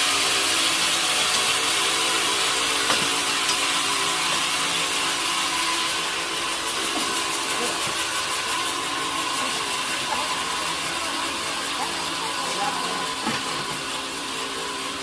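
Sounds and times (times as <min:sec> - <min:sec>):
mechanical hum: 0:00.0 - 0:15.0
sawmill machinery whine: 0:00.0 - 0:15.0.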